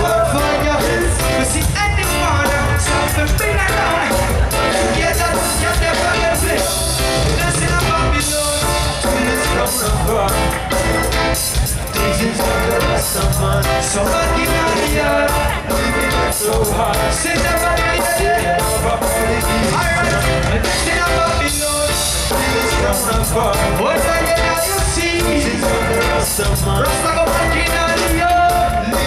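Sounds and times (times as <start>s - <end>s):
person singing: 0.0s - 29.0s
reggae band playing: 0.0s - 29.0s.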